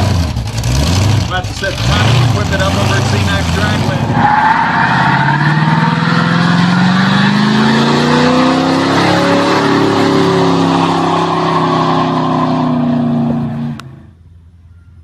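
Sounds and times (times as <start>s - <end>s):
tyres spinning in burnout: 0.0s - 13.6s
car engine revving hard: 0.0s - 14.1s.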